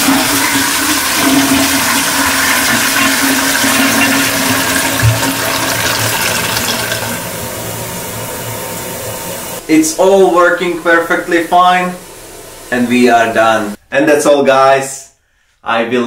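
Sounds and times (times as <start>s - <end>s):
toilet flushing water rushing: 0.0s - 13.5s.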